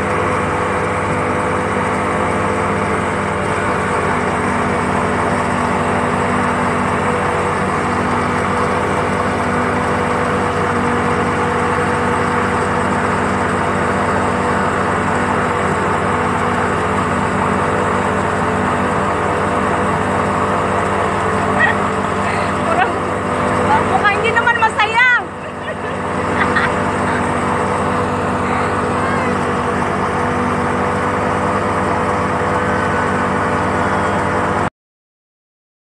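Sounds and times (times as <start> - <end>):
churning wake rushing: 0.0 - 34.6
motorboat engine running: 0.0 - 34.7.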